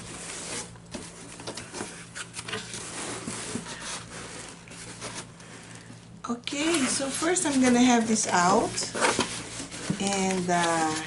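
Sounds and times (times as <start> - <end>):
hands scraping cardboard box: 0.0 - 5.3, 6.6 - 11.0.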